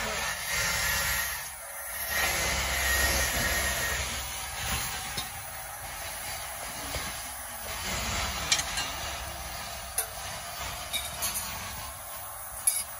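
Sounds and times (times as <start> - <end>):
water hissing into steam on hot blade: 0.0 - 12.9.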